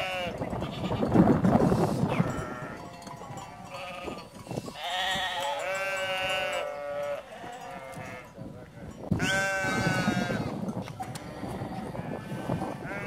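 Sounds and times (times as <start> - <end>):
goats bleating: 0.0 - 1.1, 2.2 - 10.5, 11.1 - 13.0.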